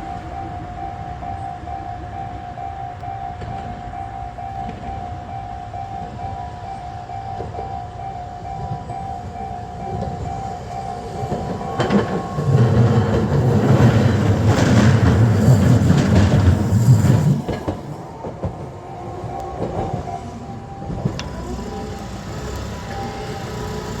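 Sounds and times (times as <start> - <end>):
crossing warning bell: 0.0 - 24.0
tram rumbling over crossing: 0.0 - 24.0.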